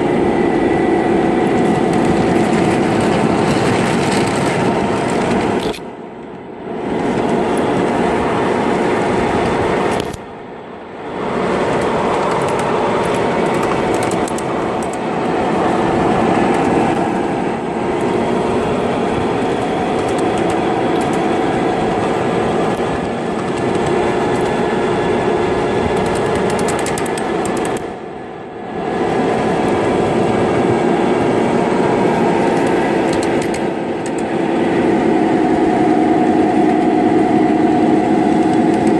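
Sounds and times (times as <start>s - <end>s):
miniature locomotive engine drone: 0.0s - 38.9s.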